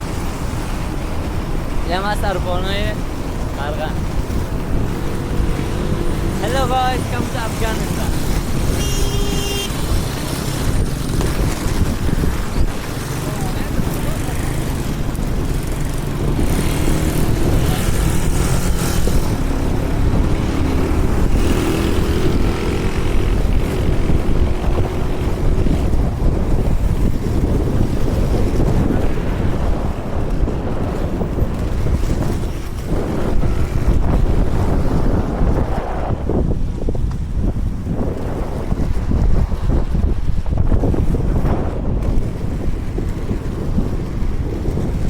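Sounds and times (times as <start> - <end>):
skateboard wheels rolling on asphalt: 0.0 - 45.0
wind buffeting microphone: 0.0 - 45.0.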